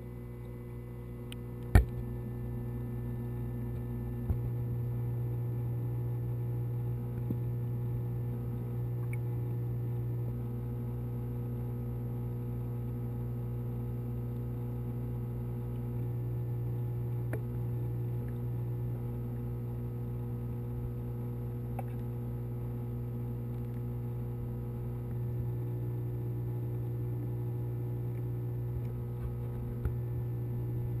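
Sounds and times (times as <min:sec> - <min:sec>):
aquarium pump hum: 0:00.0 - 0:31.0.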